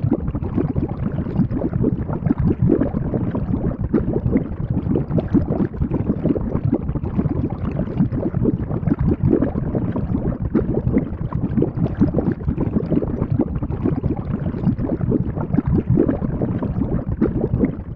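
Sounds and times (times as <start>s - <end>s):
thick liquid bubbling and gurgling: 0.0s - 17.9s.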